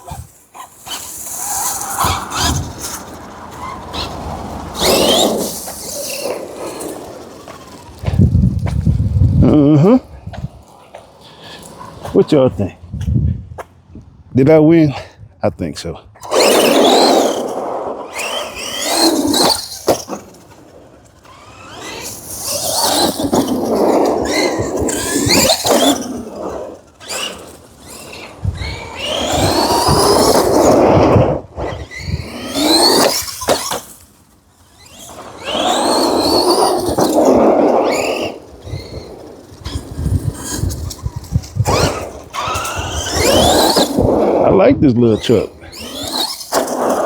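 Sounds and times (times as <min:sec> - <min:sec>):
rc truck motor whining: 0:00.0 - 0:12.2, 0:16.2 - 0:47.0.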